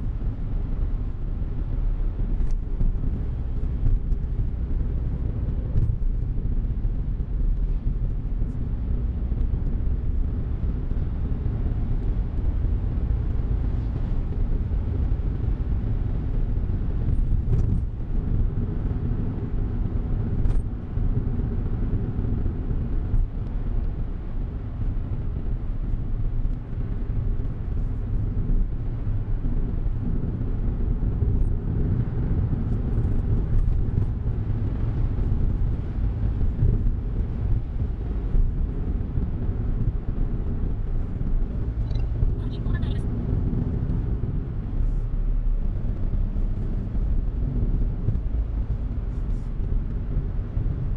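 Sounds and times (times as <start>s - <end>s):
car engine hum: 0.0s - 50.9s
road rumble: 0.0s - 50.9s.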